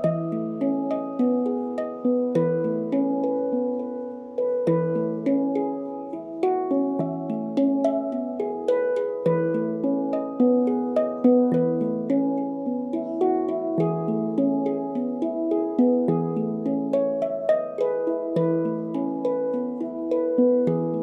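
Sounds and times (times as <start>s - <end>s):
handpan notes: 0.0s - 21.0s.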